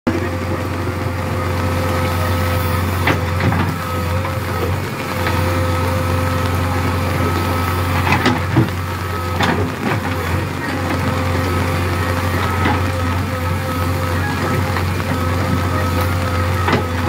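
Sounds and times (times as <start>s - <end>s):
diesel engine running: 0.1s - 17.0s.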